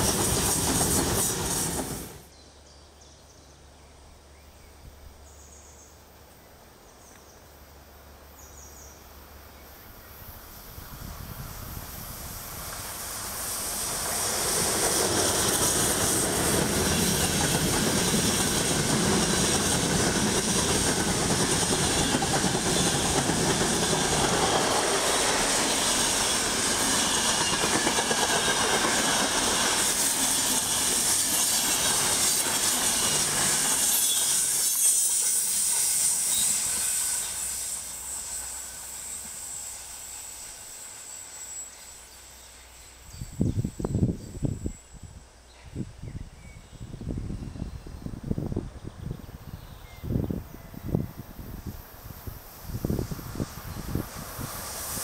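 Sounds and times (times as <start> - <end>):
train wheels rumbling on rail: 0.0 - 2.3, 10.0 - 46.0, 46.9 - 55.0
high hiss: 0.0 - 2.4, 4.8 - 45.2, 46.8 - 55.0.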